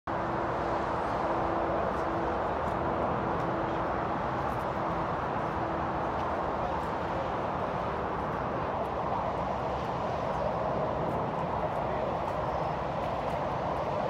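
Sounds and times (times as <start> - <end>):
motorway traffic rushing: 0.1 - 14.0.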